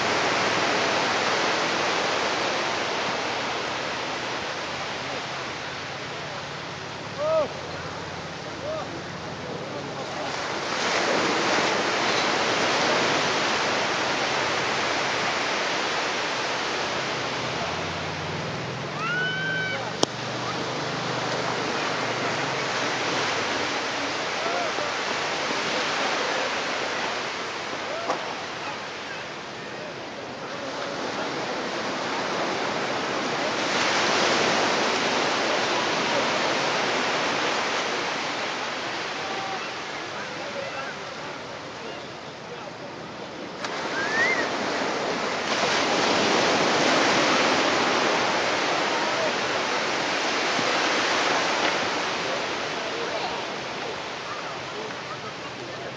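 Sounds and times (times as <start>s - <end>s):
surf washing up on beach: 0.0s - 55.9s.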